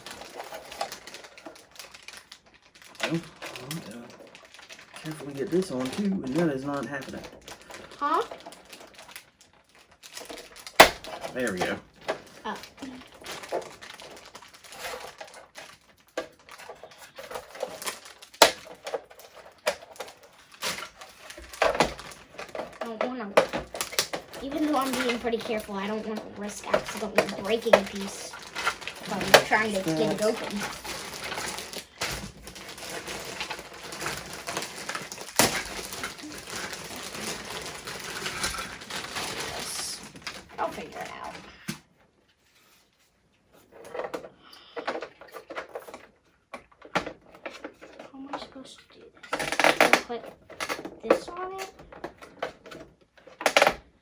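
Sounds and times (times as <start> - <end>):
packaging crinkling: 0.0 - 41.8, 49.2 - 54.0.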